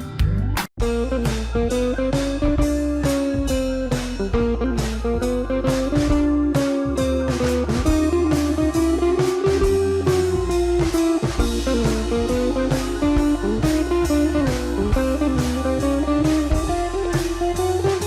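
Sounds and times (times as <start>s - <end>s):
bass: 0.0s - 18.0s
blues electric guitar: 0.0s - 18.0s
steady drum beat: 0.8s - 18.0s.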